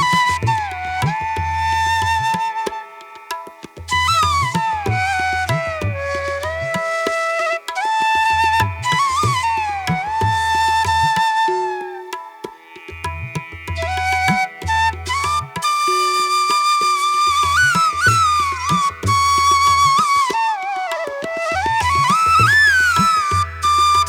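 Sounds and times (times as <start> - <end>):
bamboo flute melody: 0.0 - 12.7, 13.7 - 24.0.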